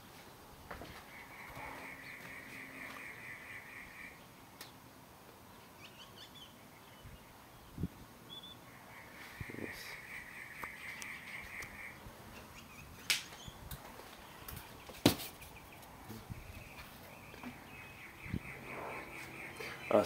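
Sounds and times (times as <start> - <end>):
faint outdoor background: 0.0 - 20.0.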